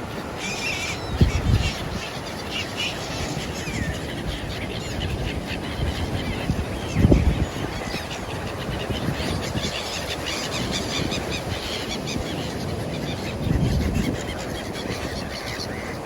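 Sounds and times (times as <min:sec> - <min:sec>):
birds chattering: 0:00.0 - 0:16.0.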